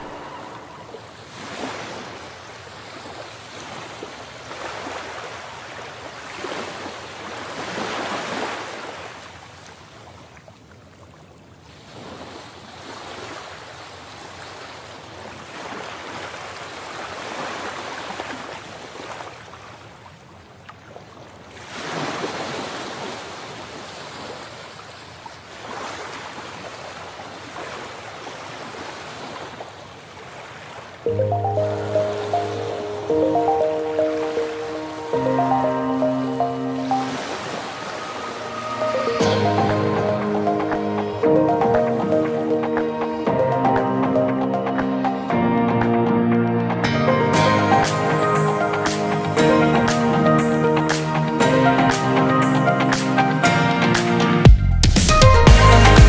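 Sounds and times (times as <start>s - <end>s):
ocean waves washing ashore: 0.0s - 54.4s.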